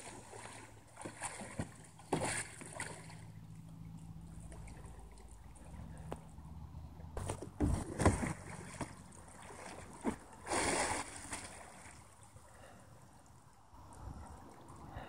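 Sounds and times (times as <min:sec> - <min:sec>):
water lapping: 0:00.0 - 0:15.0
water splashing around kayak: 0:00.0 - 0:15.0.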